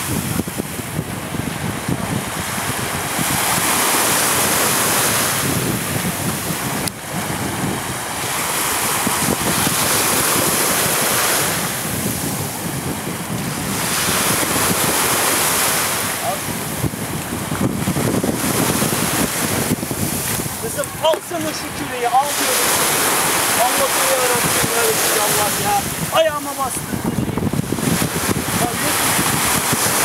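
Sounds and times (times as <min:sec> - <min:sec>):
choppy sea water: 0:00.0 - 0:30.0
wind buffeting microphone: 0:00.0 - 0:30.0.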